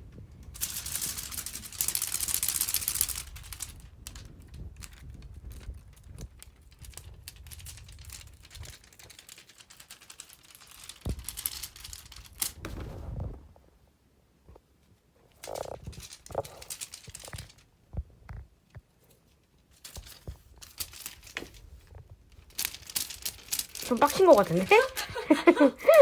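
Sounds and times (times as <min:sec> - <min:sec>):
crinkling and rustling: 0:00.0 - 0:26.0.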